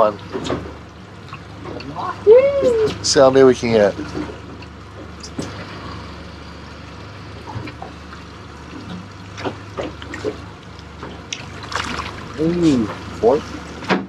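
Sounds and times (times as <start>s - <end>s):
low steady hum: 0.0s - 14.0s
water sloshing against hull: 0.0s - 14.0s.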